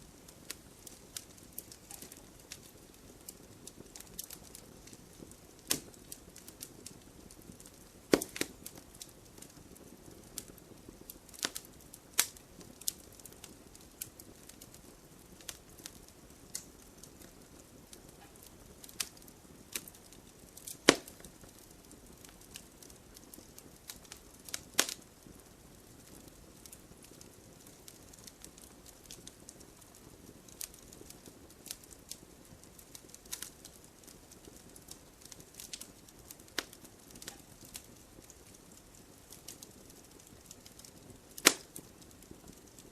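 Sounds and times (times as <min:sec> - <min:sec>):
firewood crackling: 0:00.0 - 0:42.9
soft steady hiss: 0:00.0 - 0:42.9.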